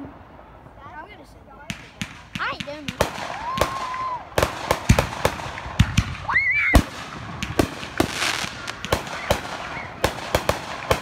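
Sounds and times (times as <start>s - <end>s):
fireworks bangs and pops: 1.6s - 11.0s.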